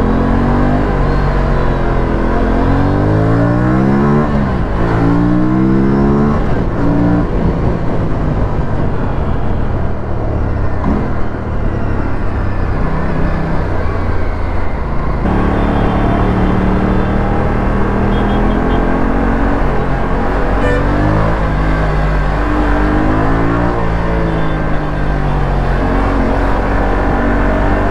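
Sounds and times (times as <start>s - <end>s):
motorcycle engine and exhaust: 0.0s - 27.9s.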